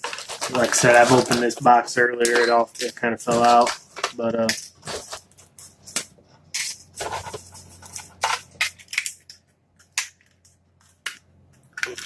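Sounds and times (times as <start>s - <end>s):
plastic packaging crinkling: 0.0s - 9.5s, 10.2s - 12.0s.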